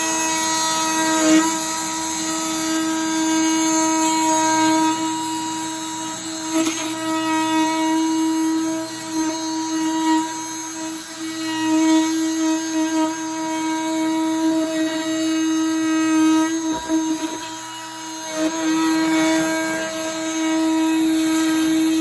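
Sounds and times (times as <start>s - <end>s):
oscillating multi-tool buzzing: 0.0s - 22.0s.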